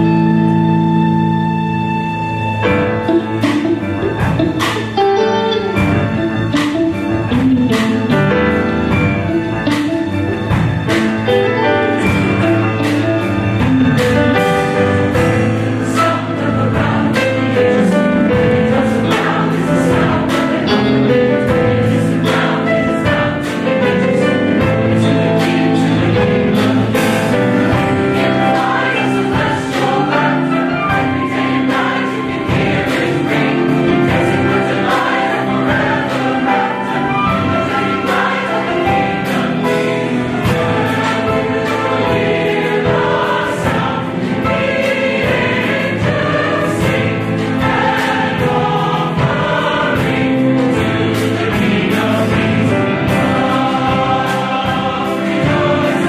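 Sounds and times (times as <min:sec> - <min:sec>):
mixed choir singing chords: 0:00.0 - 0:56.0
orchestra accompanying: 0:00.0 - 0:56.0
steady beat of sharp strokes: 0:03.0 - 0:56.0.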